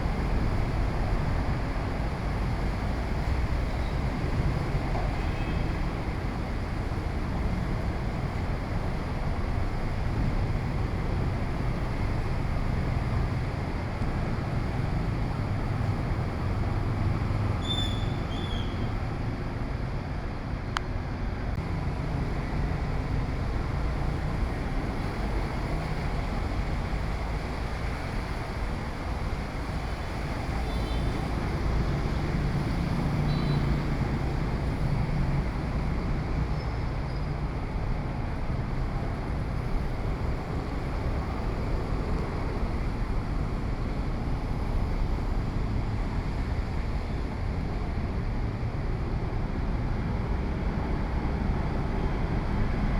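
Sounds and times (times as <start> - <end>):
heavy rain: 0.0 - 20.6, 21.5 - 52.9
low rumble of street traffic: 0.0 - 52.9
strong wind: 0.0 - 52.9.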